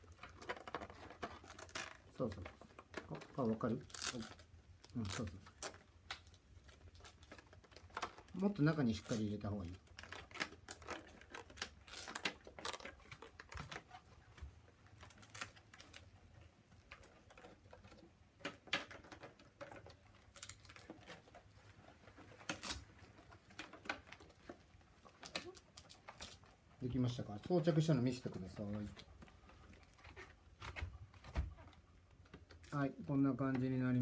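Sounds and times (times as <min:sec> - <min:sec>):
plastic clicks and rustles: 0:00.0 - 0:34.0.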